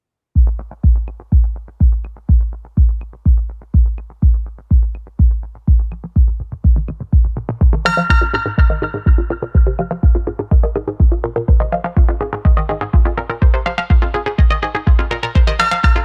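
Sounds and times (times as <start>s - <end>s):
pounding kick-drum beat: 0.4s - 16.0s
synth chords: 0.4s - 16.0s.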